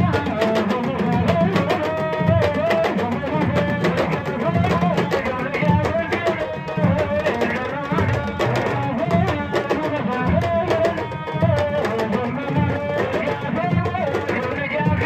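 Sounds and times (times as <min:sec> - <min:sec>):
fast drum ensemble rhythm: 0:00.0 - 0:15.0.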